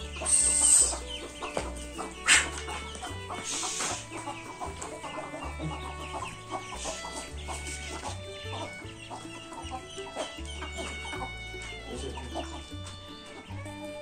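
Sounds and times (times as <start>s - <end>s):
background music with bass: 0.0s - 14.0s
chickens clucking: 0.0s - 14.0s.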